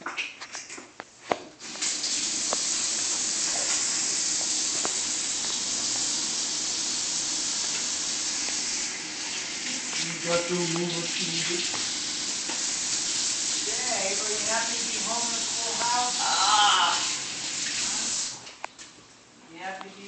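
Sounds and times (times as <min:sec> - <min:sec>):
tap water gushing into sink: 0:01.6 - 0:18.6.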